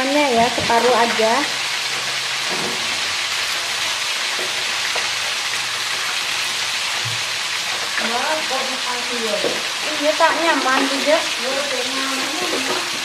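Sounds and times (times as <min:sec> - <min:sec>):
beans sizzling in hot oil: 0:00.0 - 0:13.0.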